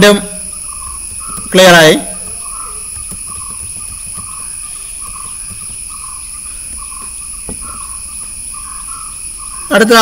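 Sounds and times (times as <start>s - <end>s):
insects buzzing: 0.0s - 10.0s
low insect call: 0.0s - 10.0s.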